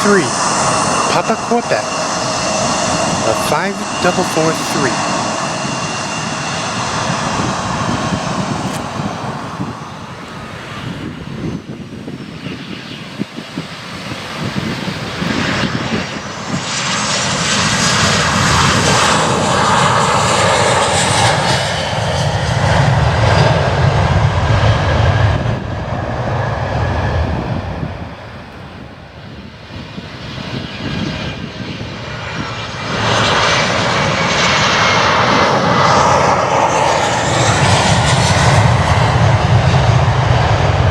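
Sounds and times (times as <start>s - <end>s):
jet engines whining and rumbling: 0.0s - 40.9s.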